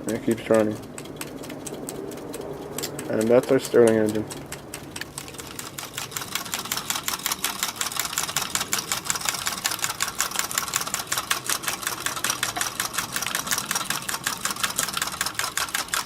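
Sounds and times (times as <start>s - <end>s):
small engine rapid even clicking: 0.0s - 16.0s.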